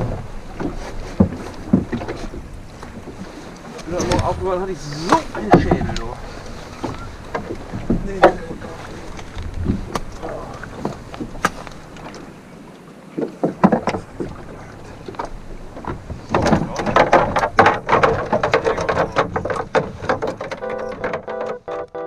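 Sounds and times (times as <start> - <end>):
knocks and clicks of fishing gear: 0.0 - 4.4, 5.0 - 14.4, 15.0 - 21.7
rumble of wind and water: 0.0 - 22.0.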